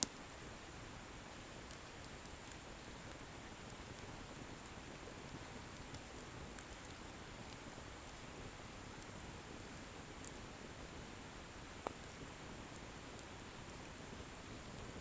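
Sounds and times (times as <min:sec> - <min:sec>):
firewood crackles and pops: 0:00.0 - 0:00.6, 0:01.3 - 0:15.0
bonfire hissing: 0:01.6 - 0:15.0.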